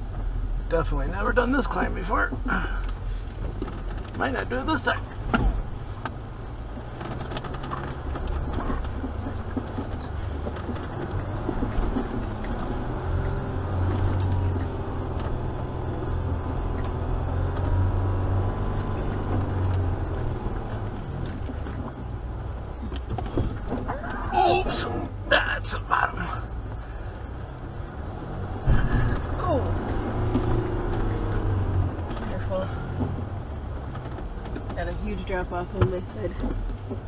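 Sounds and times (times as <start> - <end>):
engine rumbling under load: 0.0 - 37.0.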